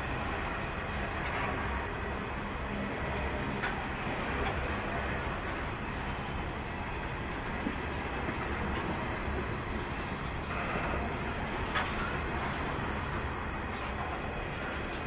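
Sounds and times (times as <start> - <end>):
steel wheels rumbling on rails: 0.0 - 15.0.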